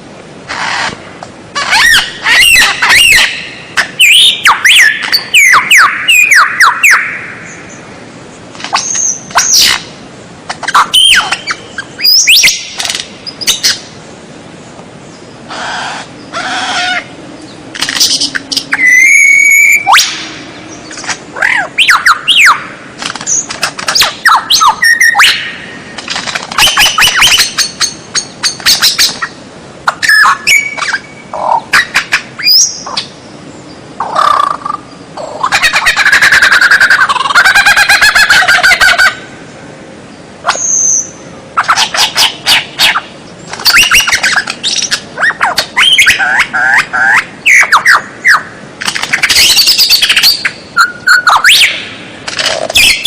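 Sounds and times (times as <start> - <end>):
bird singing varied song: 1.6 - 10.0, 10.6 - 53.0.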